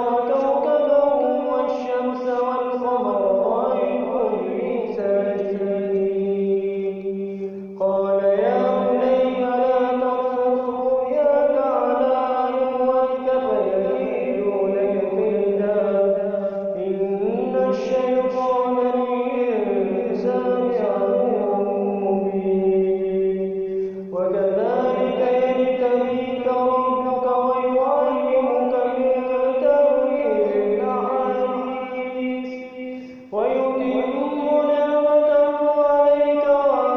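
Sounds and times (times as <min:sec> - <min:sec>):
man chanting recitation: 0:00.0 - 0:36.9.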